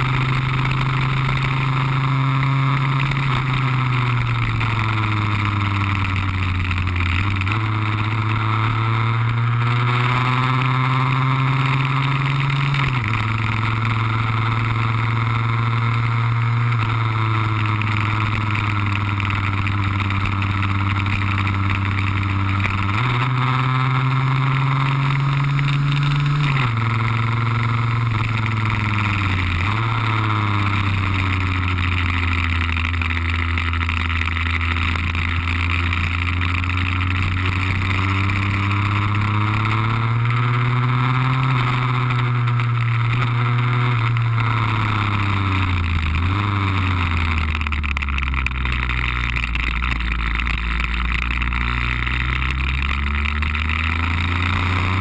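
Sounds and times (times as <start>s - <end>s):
scooter engine revving through gears: 0.0s - 55.0s.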